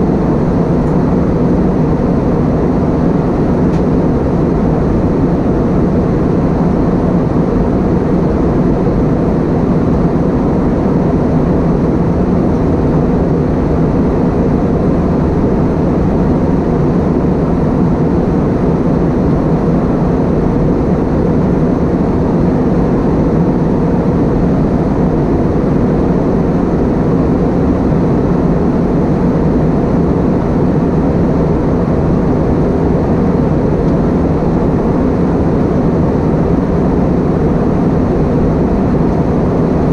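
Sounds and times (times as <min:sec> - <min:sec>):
airliner cabin engine roar: 0:00.0 - 0:39.9
low cabin hum: 0:00.0 - 0:39.9.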